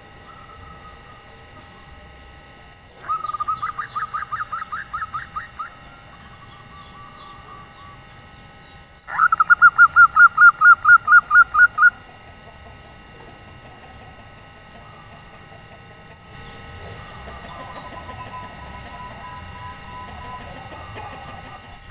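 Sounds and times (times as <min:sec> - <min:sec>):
dove rapid cooing notes: 0:00.0 - 0:02.2, 0:02.9 - 0:08.1, 0:09.1 - 0:21.9.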